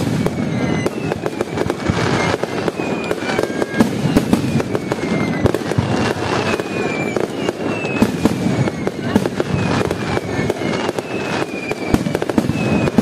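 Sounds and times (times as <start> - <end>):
fireworks bangs and crackling: 0.0 - 13.0
whistles gliding down in pitch: 0.0 - 13.0.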